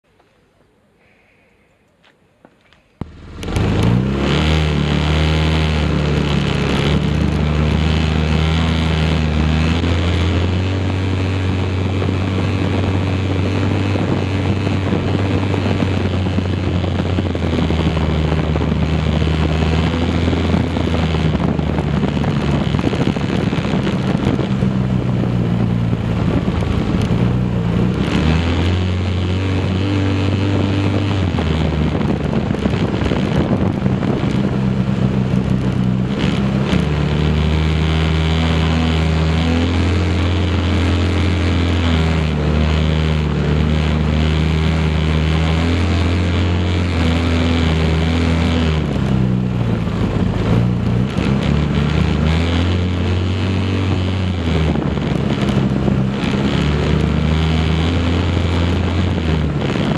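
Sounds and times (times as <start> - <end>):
wind and rumble: 2.3 - 59.9
quad bike engine running: 3.0 - 59.9.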